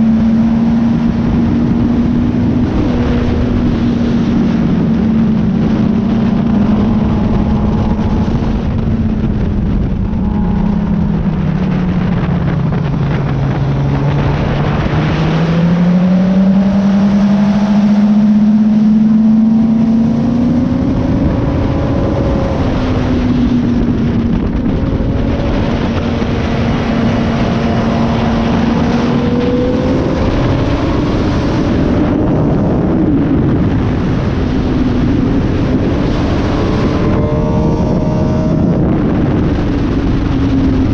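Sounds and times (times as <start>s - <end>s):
motorcycle engine at speed: 0.0s - 40.9s
wind rush: 0.0s - 40.9s.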